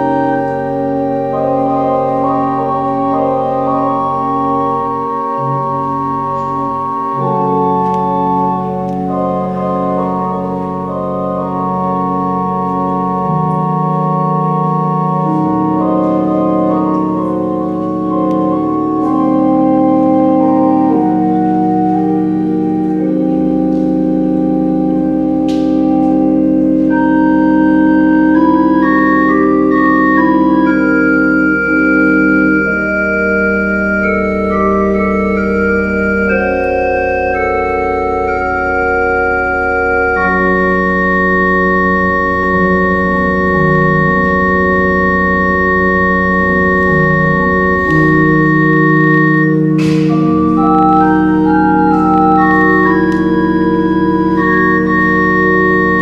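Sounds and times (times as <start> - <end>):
church organ chords: 0.0 - 56.0.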